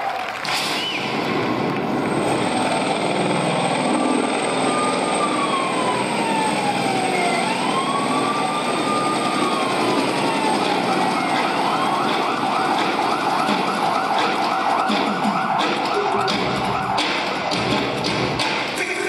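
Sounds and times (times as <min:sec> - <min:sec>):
siren wailing: 0:00.1 - 0:18.4
loud steady roar: 0:00.7 - 0:18.8.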